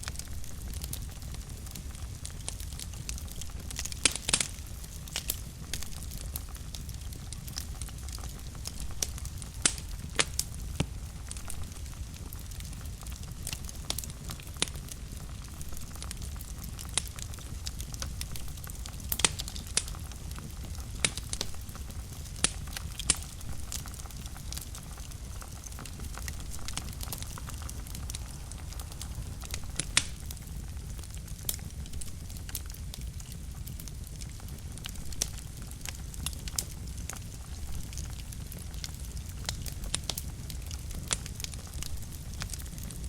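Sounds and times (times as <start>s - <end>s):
fire crackling and popping: 0.0s - 43.0s
fire rumbling in a fireplace: 0.0s - 43.0s.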